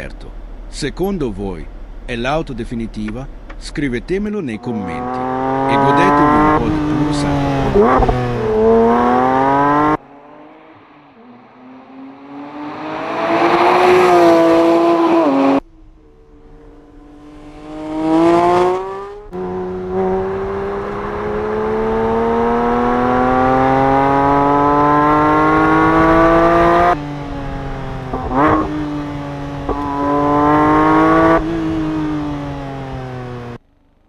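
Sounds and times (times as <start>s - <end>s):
car engine revving hard: 3.8s - 33.6s.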